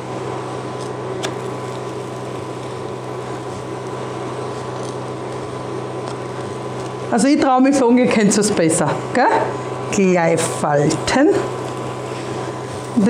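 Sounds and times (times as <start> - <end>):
electric hob humming: 0.0 - 13.0.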